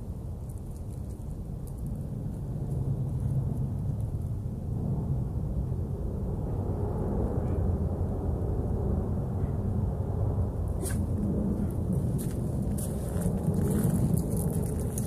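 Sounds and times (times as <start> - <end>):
jet roaring overhead: 1.9 - 15.0.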